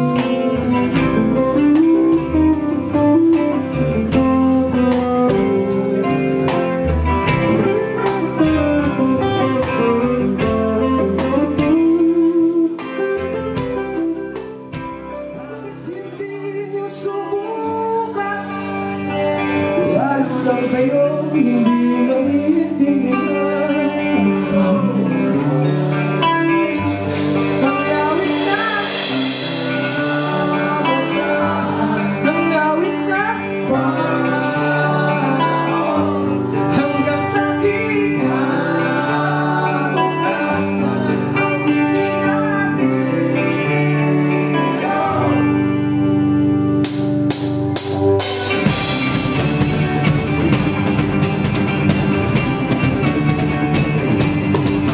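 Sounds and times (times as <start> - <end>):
person singing: 0.0 - 14.4, 15.0 - 46.5
drum kit: 0.0 - 16.2, 19.7 - 43.7, 46.4 - 54.9
bass guitar: 0.0 - 54.9
electric guitars: 0.0 - 54.9.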